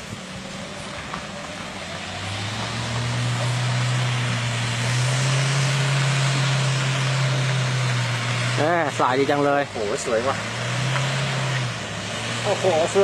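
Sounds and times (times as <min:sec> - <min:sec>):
pickup engine pulling under load: 0:00.0 - 0:13.0.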